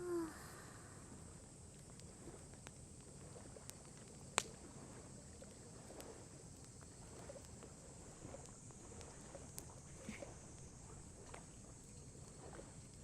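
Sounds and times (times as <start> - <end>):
campfire crackling and popping: 1.3 - 13.0.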